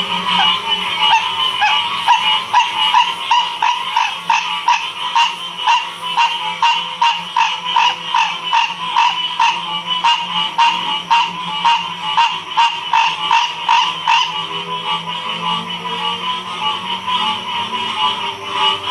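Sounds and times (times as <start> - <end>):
frogs croaking: 0.0 - 18.9
frogs trilling: 0.0 - 18.9.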